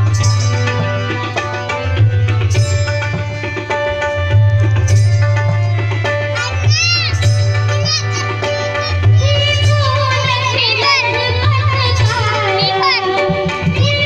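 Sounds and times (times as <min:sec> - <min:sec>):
sustained melodic instruments: 0:00.0 - 0:14.0
tabla drumming: 0:00.0 - 0:14.0.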